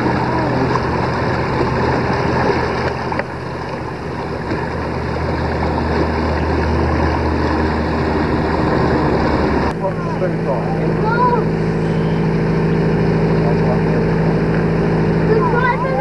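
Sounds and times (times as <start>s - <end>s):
small boat motor running: 0.0s - 16.0s
water rushing past hull: 0.0s - 16.0s.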